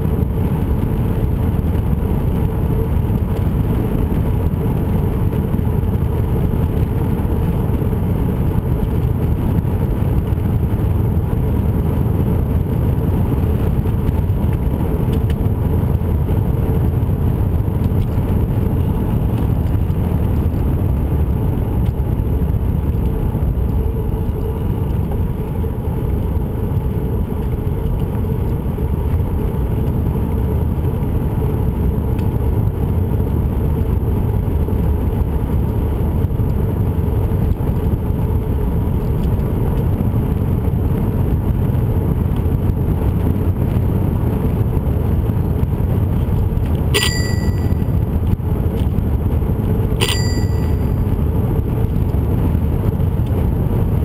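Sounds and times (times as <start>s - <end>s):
rolling noise on pavement: 0.0s - 46.9s.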